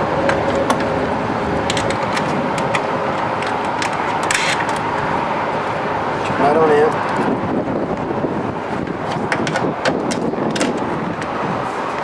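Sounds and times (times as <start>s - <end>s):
steady mechanical rumble: 0.0s - 12.0s.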